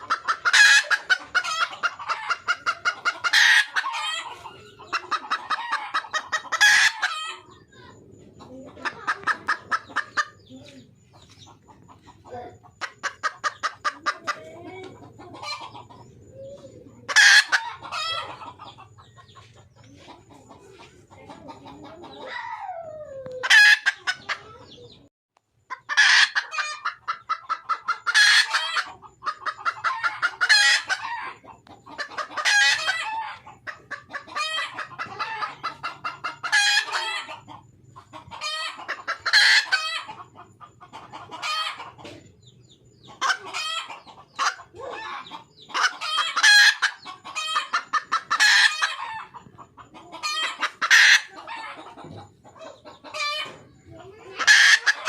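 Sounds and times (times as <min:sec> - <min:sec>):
hen cackling calls: 0:00.0 - 0:19.0, 0:19.7 - 0:25.0, 0:25.7 - 0:55.0
hen clucking: 0:00.0 - 0:55.0.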